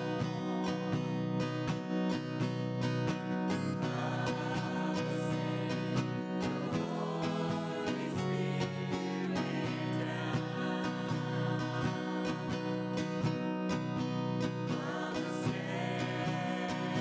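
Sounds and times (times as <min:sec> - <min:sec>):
country music: 0:00.0 - 0:17.0
strummed acoustic guitar: 0:00.0 - 0:17.0.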